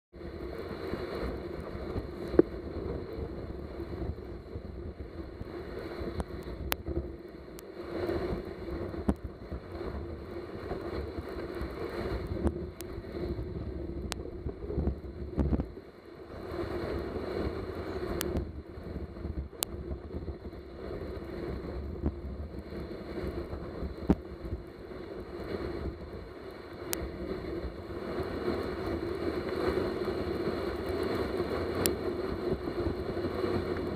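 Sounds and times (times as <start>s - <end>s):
sled scraping over snow: 0.2s - 33.9s
wind buffeting microphone: 0.2s - 33.9s.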